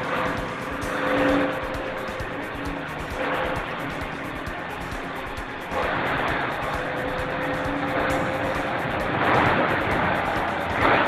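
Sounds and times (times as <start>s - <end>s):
bus diesel engine running: 0.0s - 11.0s
music playing: 0.0s - 11.0s
road noise: 0.0s - 11.0s.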